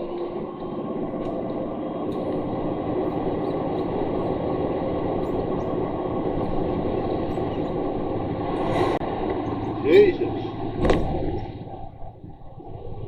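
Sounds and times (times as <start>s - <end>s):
lorry engine and road noise: 0.0s - 13.0s.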